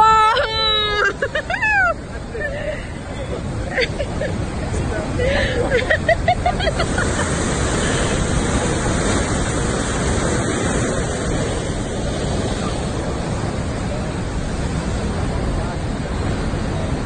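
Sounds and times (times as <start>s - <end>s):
fast river water rushing: 0.0s - 17.0s.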